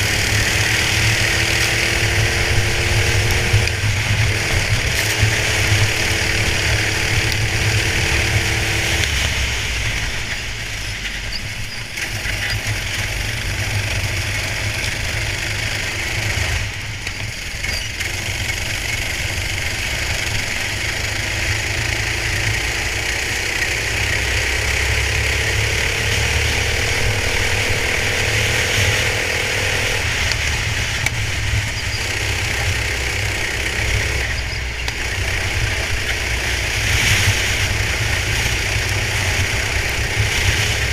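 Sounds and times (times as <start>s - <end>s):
kart engine running: 0.0s - 40.9s.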